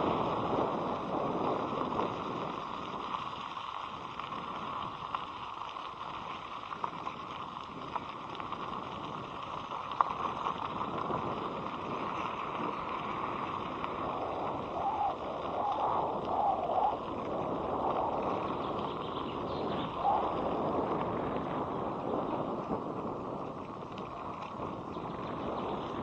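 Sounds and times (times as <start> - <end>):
wind and road noise hiss: 0.0 - 26.0.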